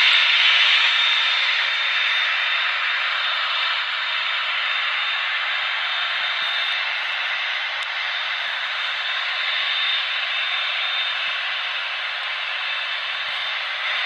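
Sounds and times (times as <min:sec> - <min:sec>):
jet engines rushing and whining: 0:00.0 - 0:14.0.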